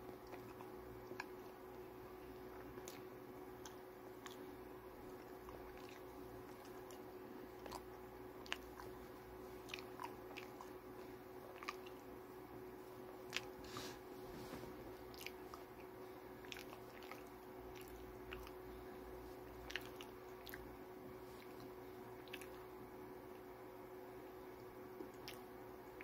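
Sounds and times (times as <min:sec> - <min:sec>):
faint chewing: 0:00.0 - 0:23.5, 0:24.5 - 0:26.0
low room hum: 0:00.0 - 0:26.0.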